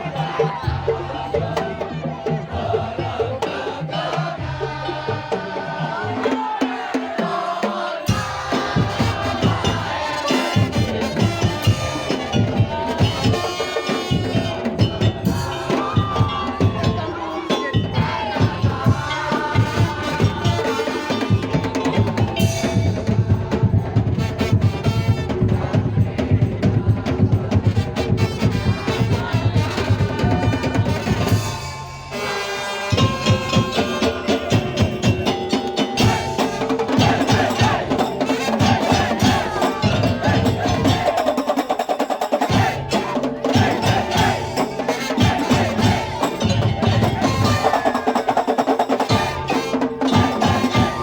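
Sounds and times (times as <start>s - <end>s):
percussion ensemble playing: 0.0s - 51.0s
wooden slit drums and drums beating: 0.0s - 51.0s.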